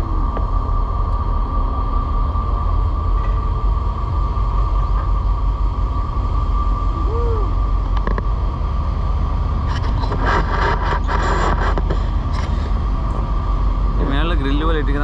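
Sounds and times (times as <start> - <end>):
machinery hum and rumble: 0.0 - 15.0
mechanical whine: 0.0 - 15.0.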